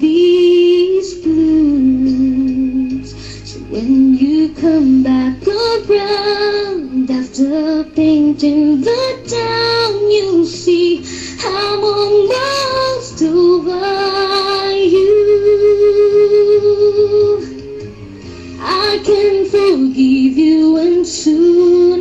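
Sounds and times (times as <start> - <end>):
woman singing into microphone: 0.0 - 17.6, 18.6 - 22.0
backing track music: 0.0 - 22.0.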